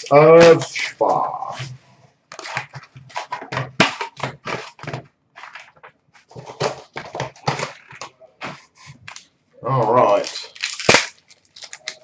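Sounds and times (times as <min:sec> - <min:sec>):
cardboard and plastic wrap crinkling: 0:01.5 - 0:09.2, 0:09.8 - 0:12.0.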